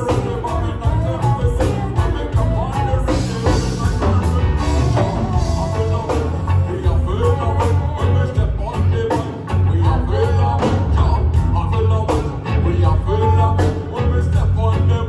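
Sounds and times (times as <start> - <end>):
drum beat: 0.0 - 14.8
heavy bass: 0.0 - 15.0
live band playing: 0.0 - 15.0
person singing: 0.0 - 15.0.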